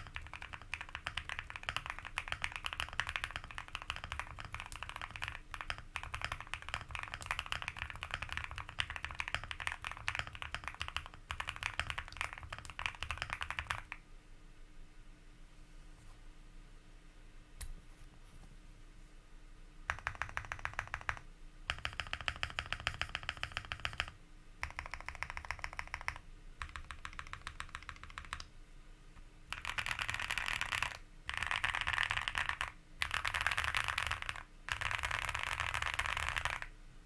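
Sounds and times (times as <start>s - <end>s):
mechanical keyboard typing: 0.0s - 14.0s, 19.9s - 28.5s, 29.5s - 36.7s.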